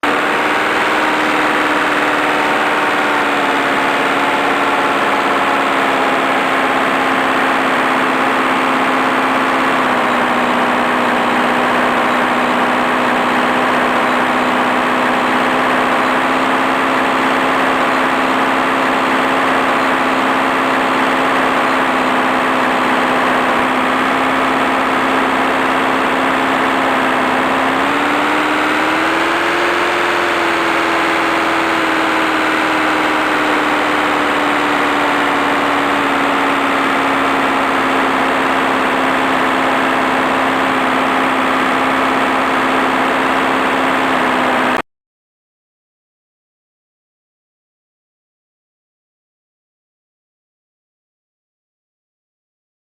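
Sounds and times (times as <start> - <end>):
biplane radial engine running: 0.0 - 44.8.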